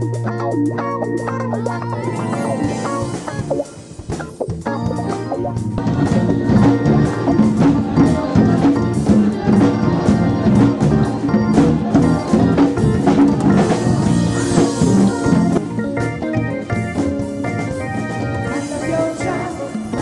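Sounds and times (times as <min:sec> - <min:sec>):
drum kit beat: 0:00.0 - 0:20.0
electric bass guitar: 0:00.0 - 0:20.0.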